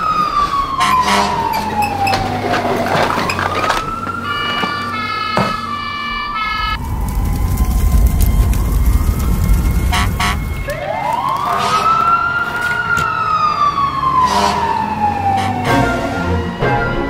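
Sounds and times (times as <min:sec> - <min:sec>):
siren wailing: 0:00.0 - 0:17.0.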